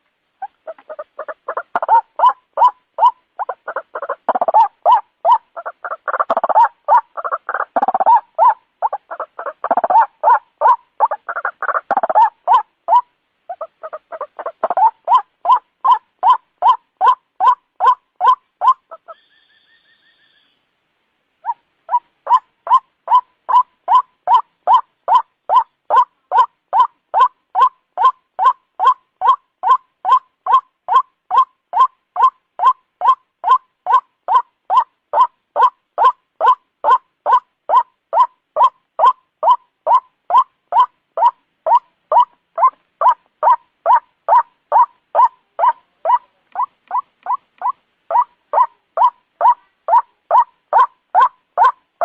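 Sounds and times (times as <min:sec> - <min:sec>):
waterhen calling rapid notes: 0:00.4 - 0:20.6, 0:21.4 - 0:51.9.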